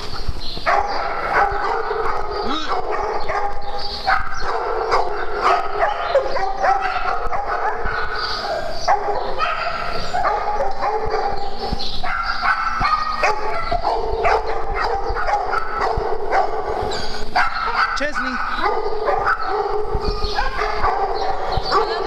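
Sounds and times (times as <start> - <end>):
dogs barking yipping and whining: 0.0 - 22.0.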